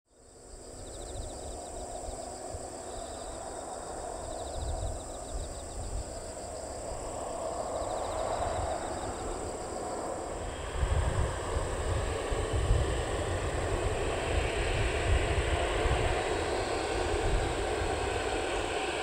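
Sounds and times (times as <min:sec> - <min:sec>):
insects chirping: 0:00.1 - 0:19.0
jet engines rumbling: 0:00.3 - 0:19.0.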